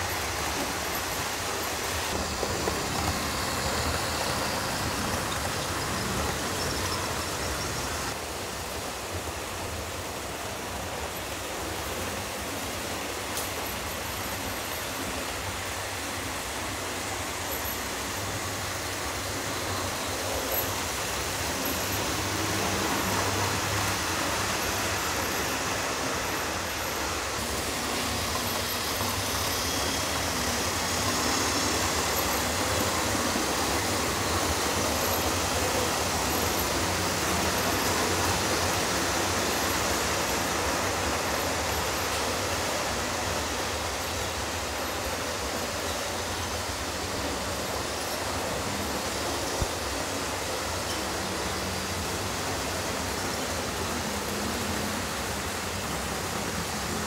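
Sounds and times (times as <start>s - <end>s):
model train running on track: 0.0s - 57.0s.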